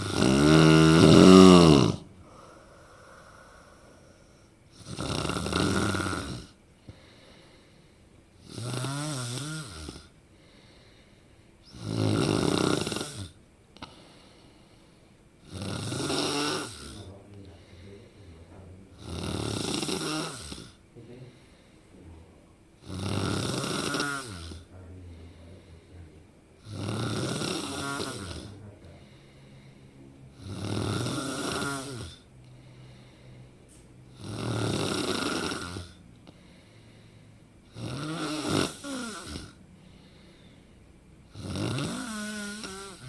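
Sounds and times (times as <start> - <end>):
person snoring: 0.0 - 7.8, 8.4 - 11.0, 11.6 - 14.6, 15.4 - 21.8, 22.8 - 33.5, 34.1 - 40.6, 41.3 - 43.0.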